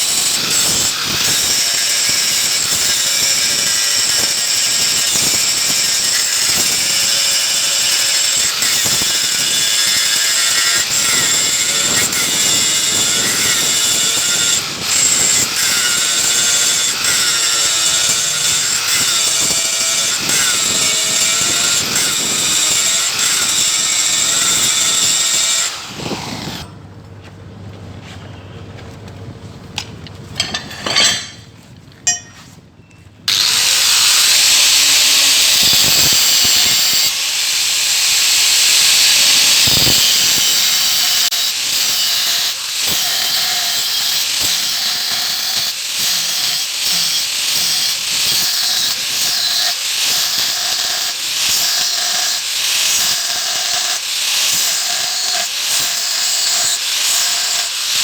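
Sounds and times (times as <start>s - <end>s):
power tool working metal: 0.0s - 26.7s, 33.3s - 58.0s.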